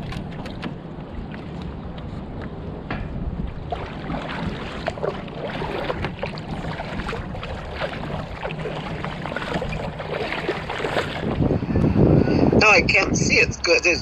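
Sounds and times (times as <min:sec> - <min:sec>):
water splashing and lapping: 0:00.0 - 0:14.0
wind buffeting microphone: 0:00.0 - 0:14.0.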